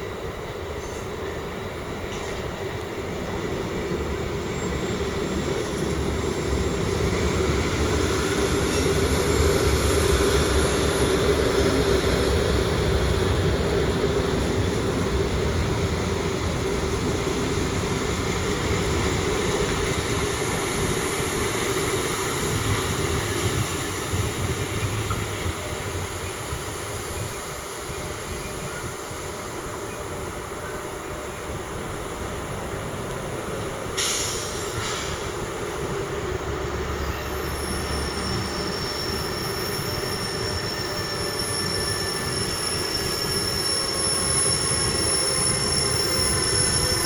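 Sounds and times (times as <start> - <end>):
electric train passing: 0.0 - 47.0.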